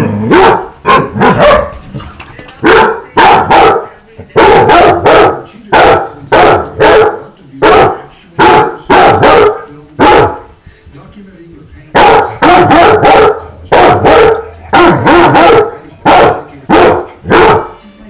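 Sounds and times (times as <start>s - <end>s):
dogs barking: 0.0s - 2.0s, 2.6s - 10.6s, 11.9s - 17.8s.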